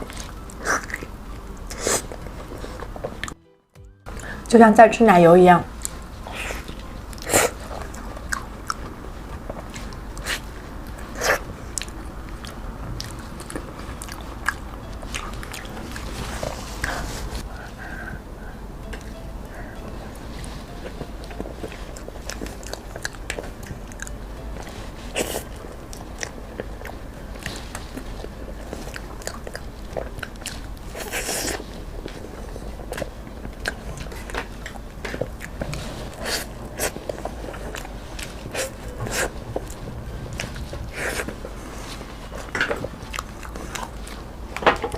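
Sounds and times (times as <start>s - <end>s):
wet chewing mouth sounds: 0.0s - 3.4s, 5.8s - 17.4s, 21.5s - 44.6s.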